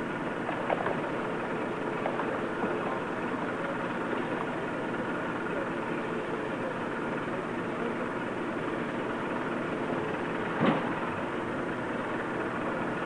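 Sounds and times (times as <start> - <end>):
fire engine motor idling: 0.0 - 13.0.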